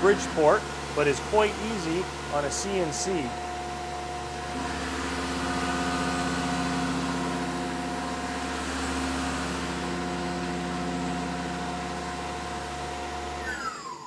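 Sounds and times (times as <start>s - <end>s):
milling machine whining: 0.0s - 14.0s.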